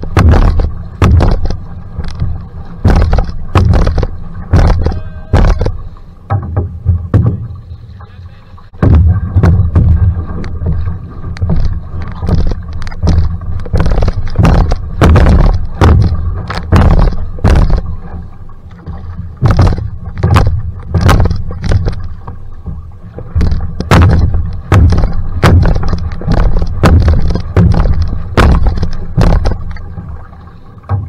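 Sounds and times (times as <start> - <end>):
gurgling water: 0.0 - 31.0
paddle strokes splashing water: 0.0 - 31.0.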